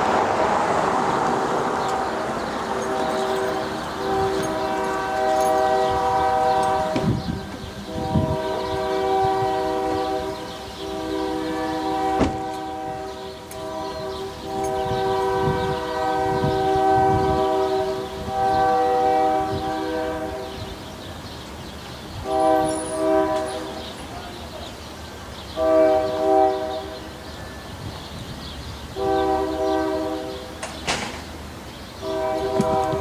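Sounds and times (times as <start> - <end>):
freight train wheels rumbling: 0.0 - 33.0
train horn blasts: 1.6 - 20.9, 22.2 - 24.8, 25.5 - 27.9, 28.9 - 30.6, 32.0 - 33.0.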